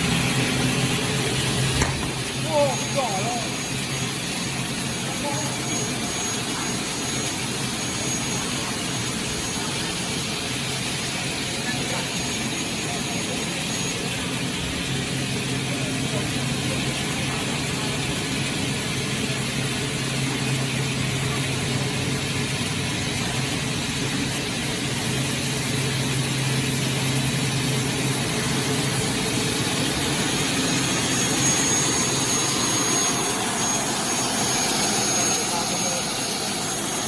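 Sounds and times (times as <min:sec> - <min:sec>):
faint high whine: 0:00.0 - 0:37.0.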